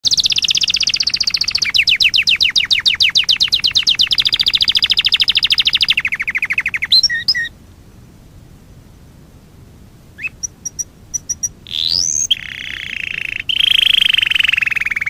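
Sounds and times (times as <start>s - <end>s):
canary singing trills: 0.0s - 7.5s, 10.2s - 15.0s.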